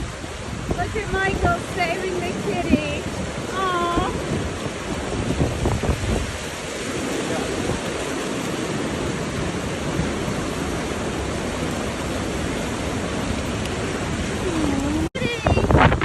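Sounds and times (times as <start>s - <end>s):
hurricane wind and rain: 0.0s - 16.0s.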